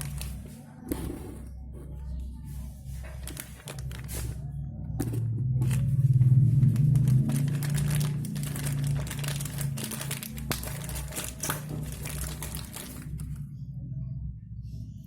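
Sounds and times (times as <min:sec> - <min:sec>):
crinkling handling noise: 0:00.0 - 0:13.5
steady low hum: 0:00.0 - 0:15.0.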